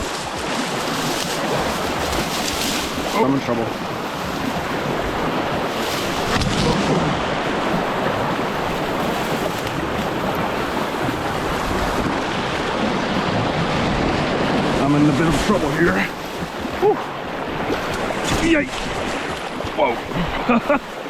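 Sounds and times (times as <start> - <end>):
strong wind on microphone: 0.0 - 20.4
waves washing on shore: 0.0 - 21.0.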